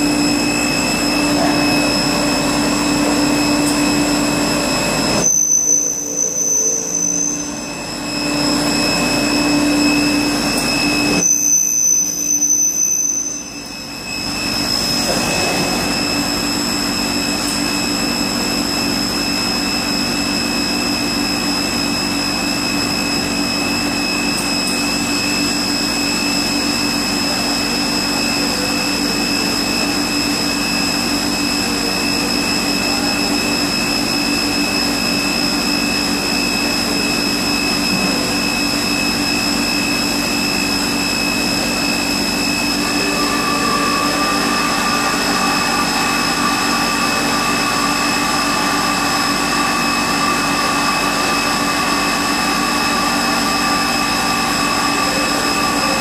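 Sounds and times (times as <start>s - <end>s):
industrial machine hum: 0.0s - 56.0s
steady high-pitched tones: 0.0s - 56.0s.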